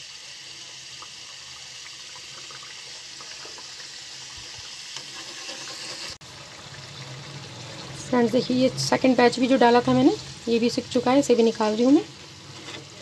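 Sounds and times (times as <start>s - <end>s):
deep-frying sizzle and bubbling: 0.0s - 13.0s.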